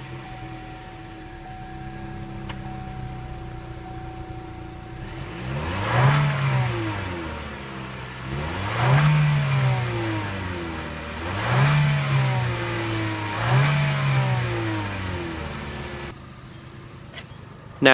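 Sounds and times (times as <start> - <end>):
car engine revving: 0.0 - 16.1.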